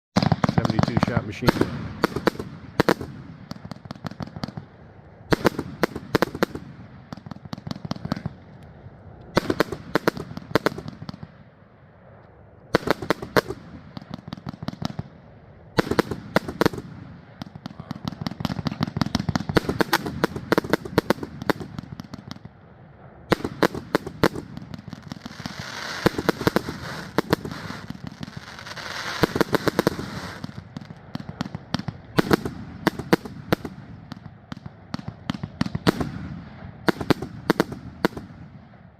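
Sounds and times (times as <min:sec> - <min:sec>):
high firework crackling: 0:00.2 - 0:11.5, 0:12.7 - 0:38.8
firework volleys of sharp shots: 0:00.2 - 0:12.1, 0:12.7 - 0:38.9.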